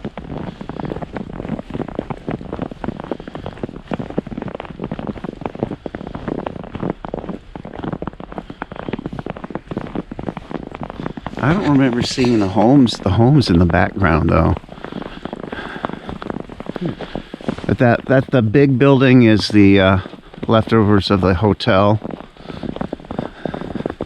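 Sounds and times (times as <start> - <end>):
snow crunching and crackling: 0.0 - 24.0.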